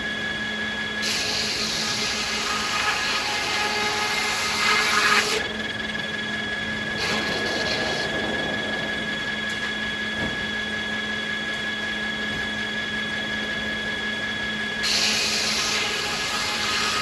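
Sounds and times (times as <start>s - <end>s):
sawmill machinery whining: 0.0s - 17.0s.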